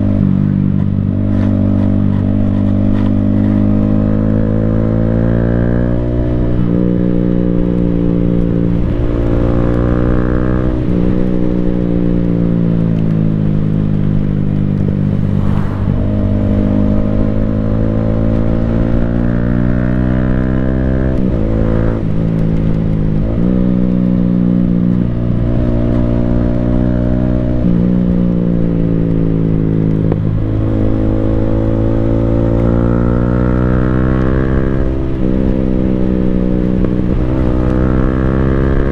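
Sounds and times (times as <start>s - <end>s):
motorcycle engine shifting gears: 0.0s - 38.9s.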